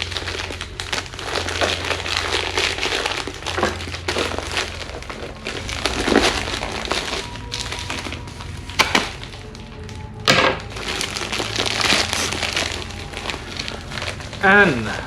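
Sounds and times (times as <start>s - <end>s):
bag crinkling and rustling: 0.0s - 15.0s
low steady hum: 0.0s - 15.0s.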